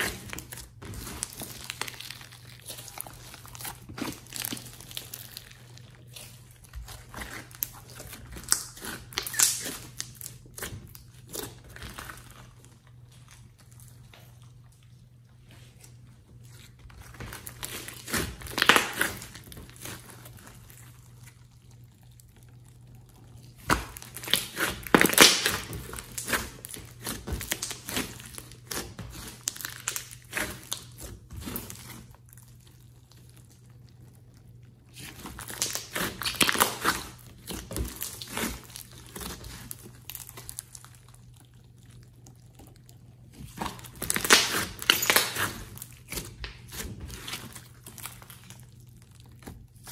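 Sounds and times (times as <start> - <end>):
slime crackling and popping: 0.0 - 14.7, 16.5 - 49.9.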